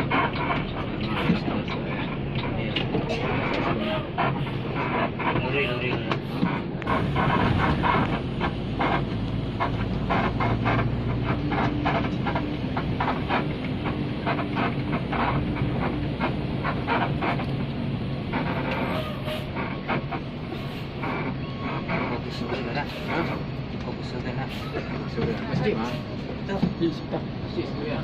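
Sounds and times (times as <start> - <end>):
bus engine and road rumble: 0.0 - 28.0
rattles and clatters in cabin: 0.0 - 28.0.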